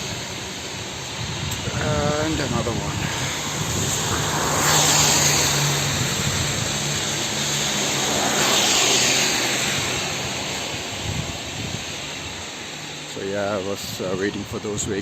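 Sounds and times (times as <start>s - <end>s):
vehicles driving past: 0.0s - 15.0s.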